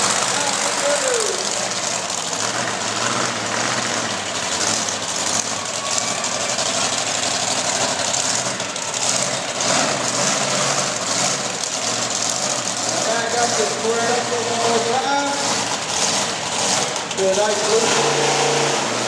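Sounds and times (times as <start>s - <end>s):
monster truck engine running: 0.0s - 19.0s.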